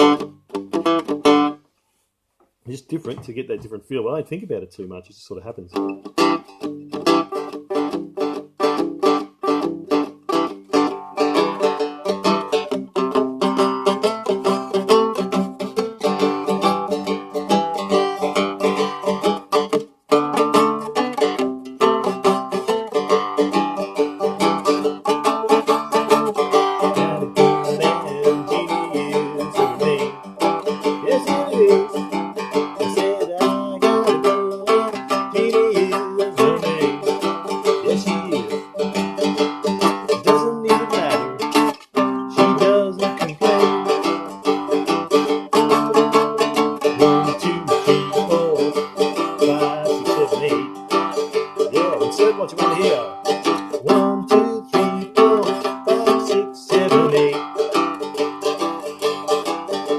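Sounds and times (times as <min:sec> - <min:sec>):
fingerpicked dulcimer blues: 0:05.9 - 0:59.9.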